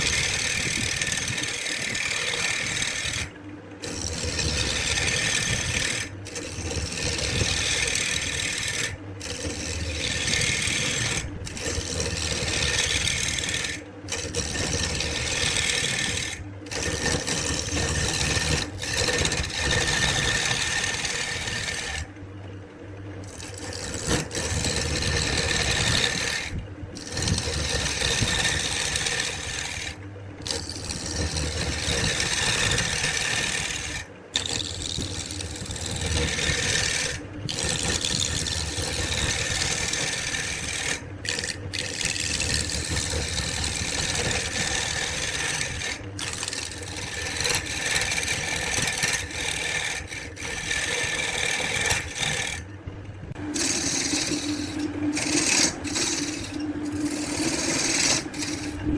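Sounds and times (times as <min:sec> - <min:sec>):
abrasive rubbing on wood: 0:00.0 - 0:22.1, 0:23.2 - 0:52.7, 0:53.4 - 0:58.8.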